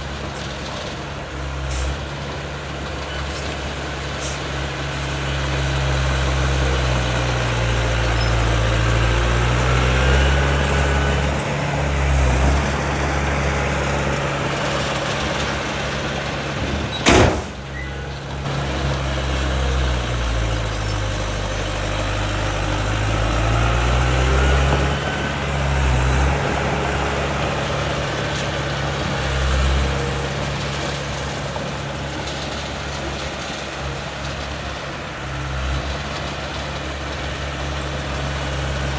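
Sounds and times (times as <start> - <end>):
heavy diesel engine under load: 0.0 - 38.9.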